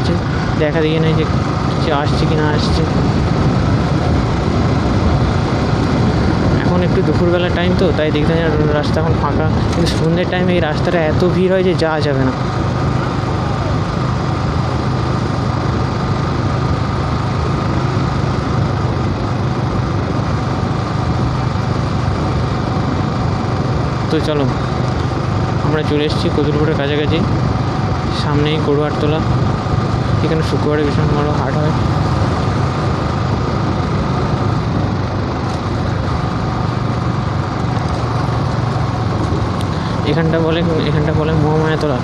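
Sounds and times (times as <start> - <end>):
motorcycle engine running: 0.0 - 42.0
road noise: 0.0 - 42.0
wind rushing: 0.0 - 42.0.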